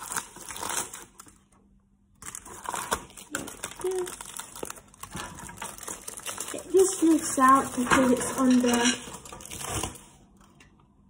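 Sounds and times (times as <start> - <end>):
aluminium foil crinkling: 0.0 - 1.5, 2.2 - 10.6.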